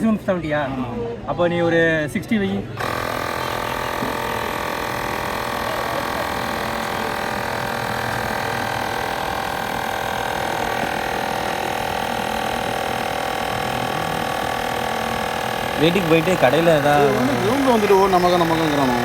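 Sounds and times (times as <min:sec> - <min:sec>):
electric tyre inflator whining: 0:02.7 - 0:19.0.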